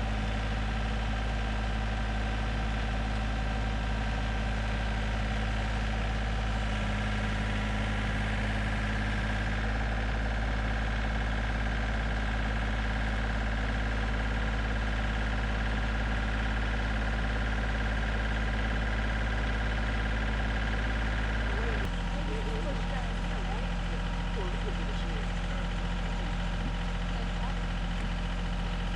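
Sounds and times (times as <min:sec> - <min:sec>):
tractor engine idling: 0:00.0 - 0:28.9.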